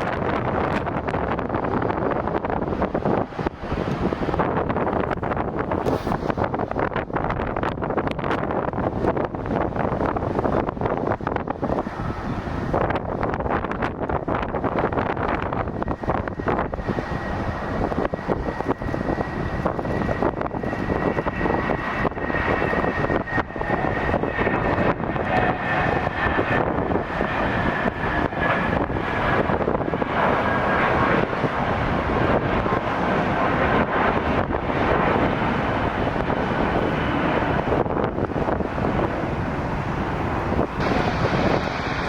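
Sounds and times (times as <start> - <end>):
jet engines rushing and whining: 0.0 - 42.0
wind buffeting the microphone: 0.0 - 42.0.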